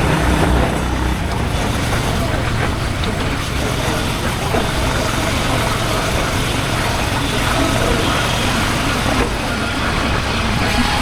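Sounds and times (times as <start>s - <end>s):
motorcycle engine low rumble: 0.0s - 9.1s.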